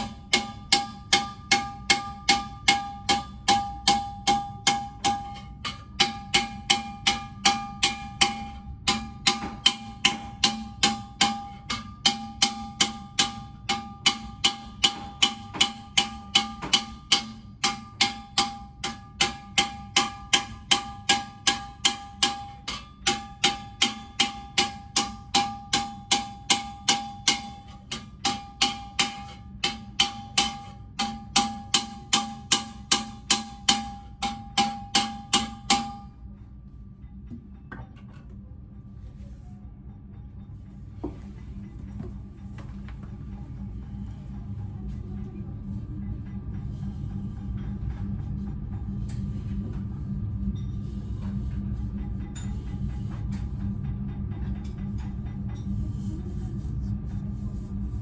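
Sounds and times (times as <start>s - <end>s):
hammer striking copper with ringing: 0.0s - 58.0s.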